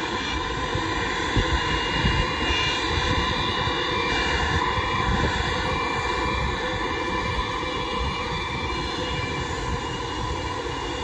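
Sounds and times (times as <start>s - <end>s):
jet engines whining: 0.0s - 11.0s
wind buffeting microphone: 0.0s - 11.0s.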